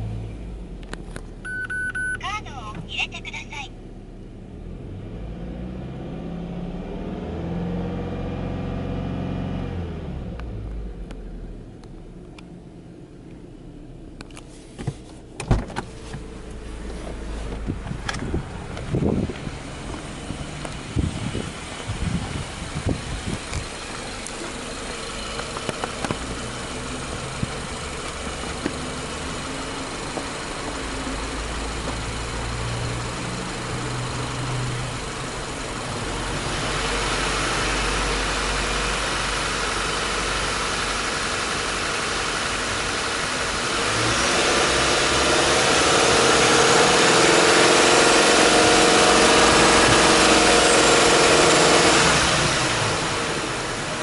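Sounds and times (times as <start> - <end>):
car engine running: 9.7 - 54.0.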